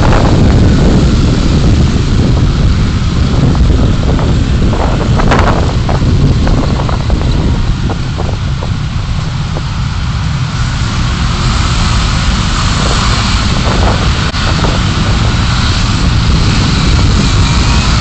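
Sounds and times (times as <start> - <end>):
engine and road rumble: 0.0 - 18.0
tyre and wind hiss: 0.0 - 18.0.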